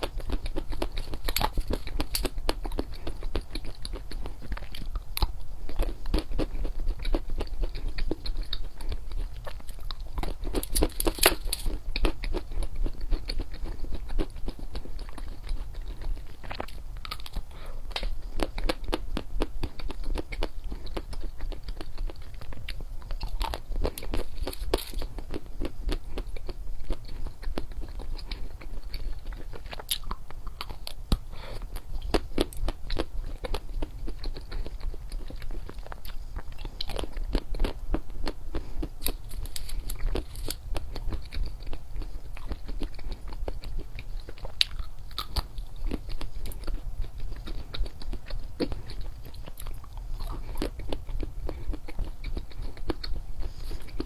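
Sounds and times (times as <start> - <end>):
chewing and crunching chocolates: 0.0 - 54.0
low steady hum: 0.0 - 54.0.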